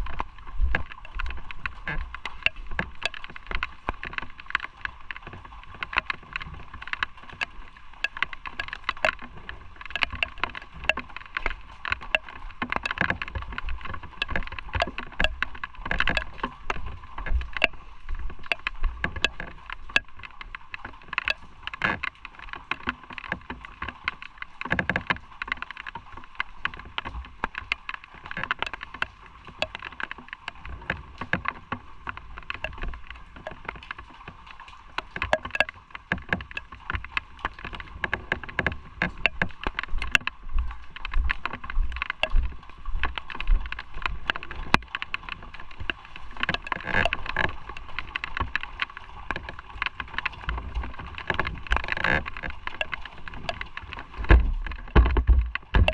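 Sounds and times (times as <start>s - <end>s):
wind crackling on microphone: 0.0s - 55.9s.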